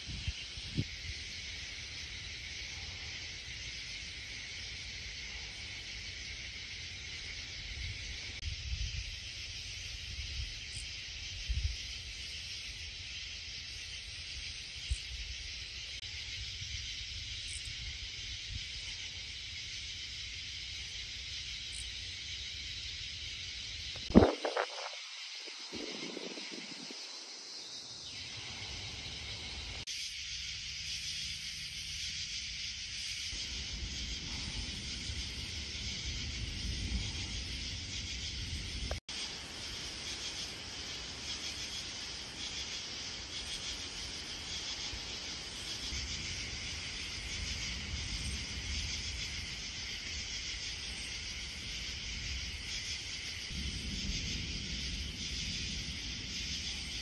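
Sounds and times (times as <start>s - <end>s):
night insects chorus: 0.0s - 57.0s.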